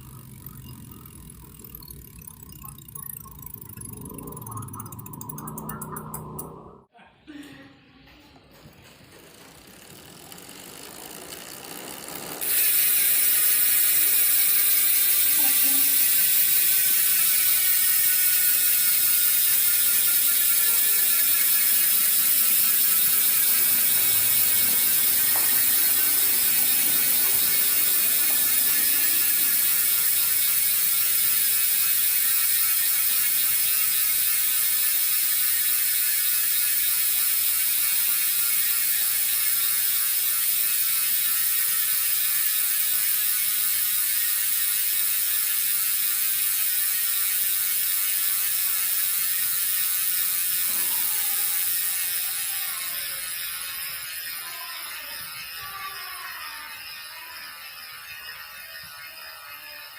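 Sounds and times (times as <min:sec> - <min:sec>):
bicycle freehub clicking buzz: 0:00.0 - 0:06.9, 0:08.5 - 0:59.9.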